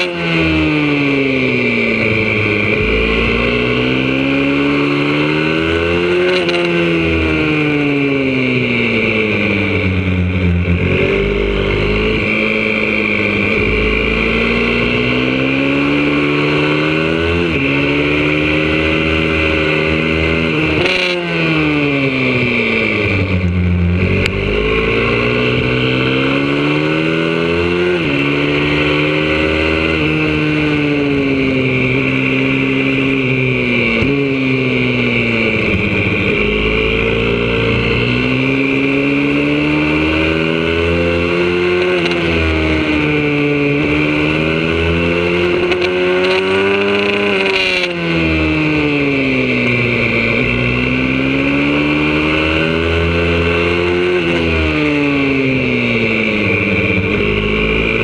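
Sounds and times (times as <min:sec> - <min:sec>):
motorbike engine revving hard: 0:00.0 - 0:58.0.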